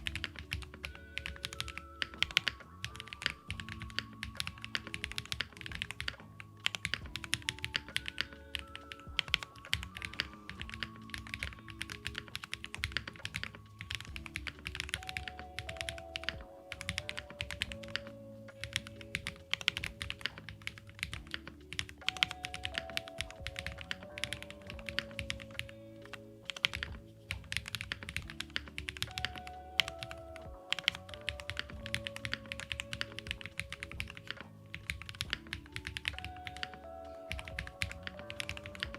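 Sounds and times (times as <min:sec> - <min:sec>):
lo-fi music: 0:00.0 - 0:38.9
mechanical keyboard typing: 0:00.0 - 0:38.9.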